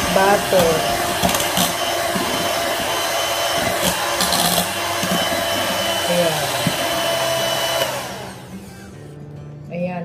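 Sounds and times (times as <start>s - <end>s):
electric hand mixer whipping: 0.0s - 9.1s.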